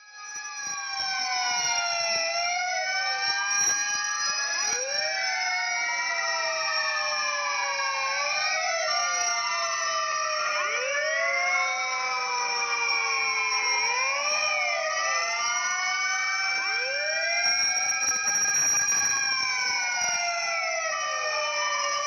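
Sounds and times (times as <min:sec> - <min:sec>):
fire truck sirens wailing: 0:00.0 - 0:22.0.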